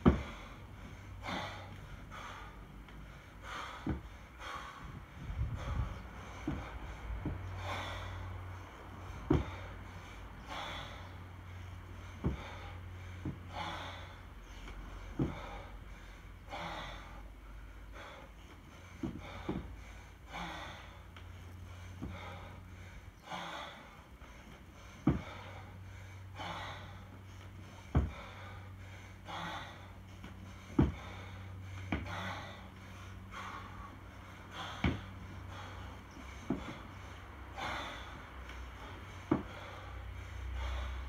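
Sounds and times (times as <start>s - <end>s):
man breathing hard: 0.0s - 41.0s.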